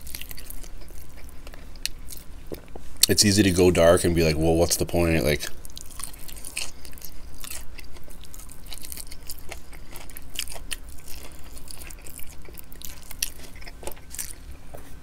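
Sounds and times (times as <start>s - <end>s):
wet sticky chewing: 0.0s - 3.2s, 5.4s - 14.6s.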